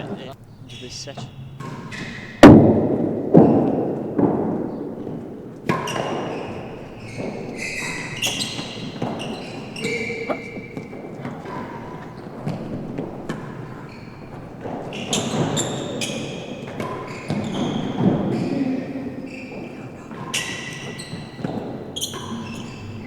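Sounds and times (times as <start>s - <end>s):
ball knocking off rackets and walls: 0.0s - 23.0s
shoes squeaking on floor: 0.0s - 23.0s.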